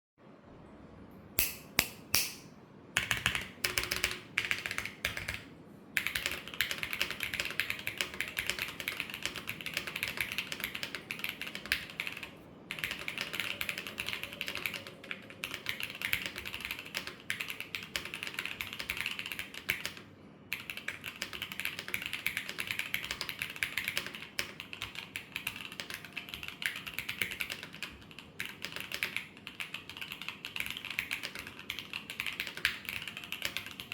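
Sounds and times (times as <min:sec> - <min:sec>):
typing on mechanical keyboard: 0:03.0 - 0:33.9.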